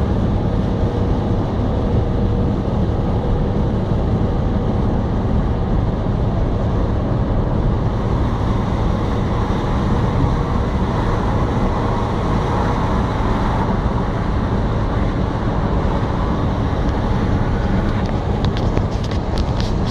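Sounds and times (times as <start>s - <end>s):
road traffic rumble: 0.0s - 19.9s.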